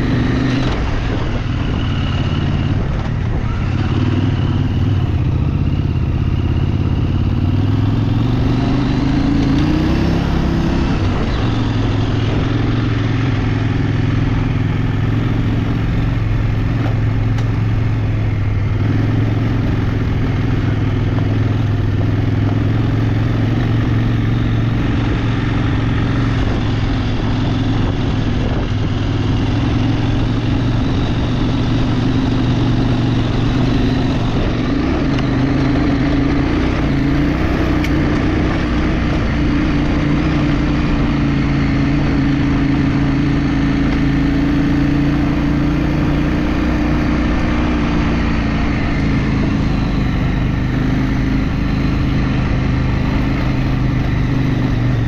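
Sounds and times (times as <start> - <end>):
road and wind noise: 0.0 - 55.0
vehicle engine running: 0.0 - 55.0.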